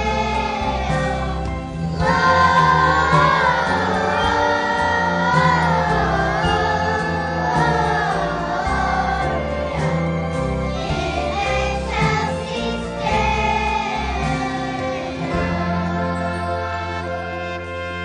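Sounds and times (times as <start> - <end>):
choir singing: 0.0 - 18.0
instrumental accompaniment: 0.0 - 18.0.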